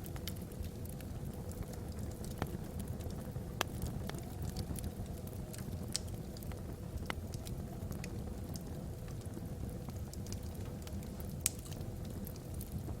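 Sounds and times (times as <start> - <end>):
flames rumbling: 0.0 - 13.0
wood fire crackling: 0.0 - 13.0
wood fire popping: 0.0 - 13.0.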